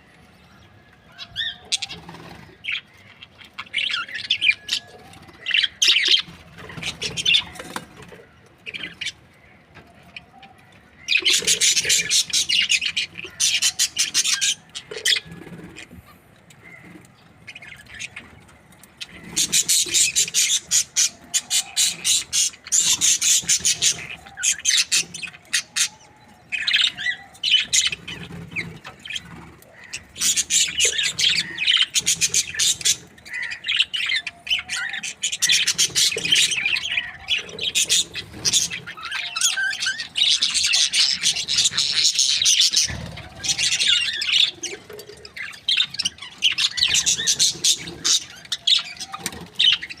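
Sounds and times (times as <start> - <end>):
budgerigars chirping and chattering: 1.1 - 9.2, 11.0 - 16.0, 16.6 - 50.0.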